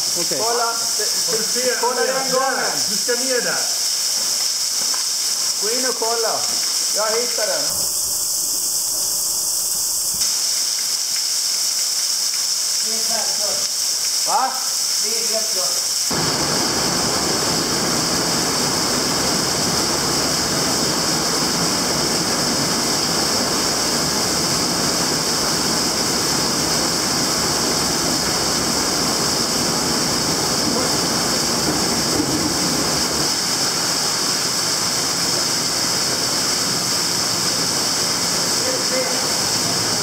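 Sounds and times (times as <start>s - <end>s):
water rushing down a cave shaft: 0.0s - 9.4s, 10.0s - 40.0s.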